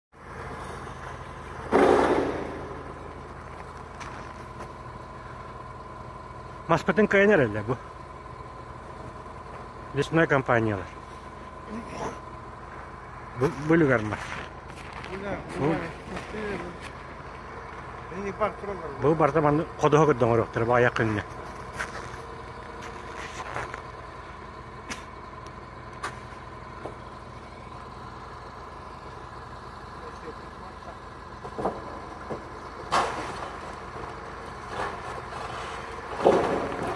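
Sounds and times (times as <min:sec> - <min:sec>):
diesel engine running: 0:00.1 - 0:36.9
steady whine: 0:00.2 - 0:36.9.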